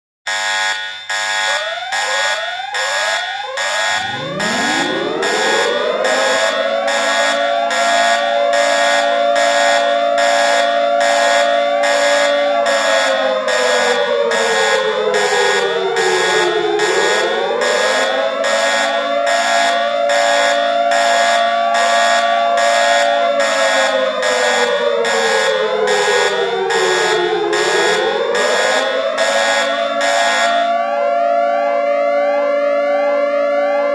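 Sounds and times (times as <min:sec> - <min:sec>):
electronic alarm beeps and chirps: 0:00.3 - 0:21.5, 0:23.8 - 0:30.8
siren winding up: 0:00.3 - 0:31.6.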